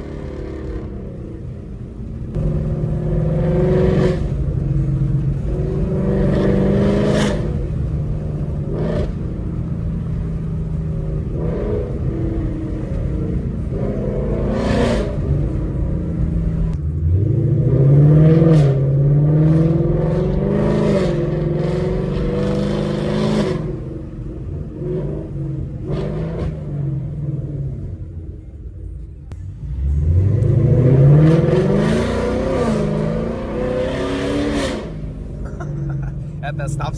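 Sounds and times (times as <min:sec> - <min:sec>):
car exhaust accelerating: 0:00.0 - 0:36.9.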